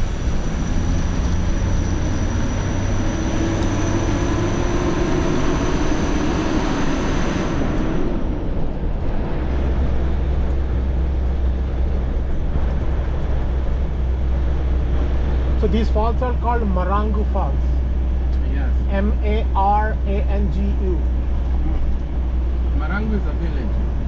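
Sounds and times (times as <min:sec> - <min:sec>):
vehicle rumble and road noise: 0:00.0 - 0:24.0.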